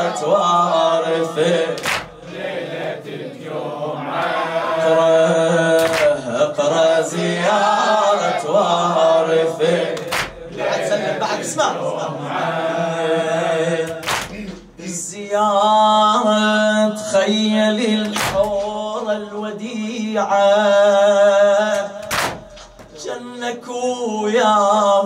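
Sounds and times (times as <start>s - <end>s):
male voices chanting: 0.0s - 15.4s, 16.1s - 25.0s.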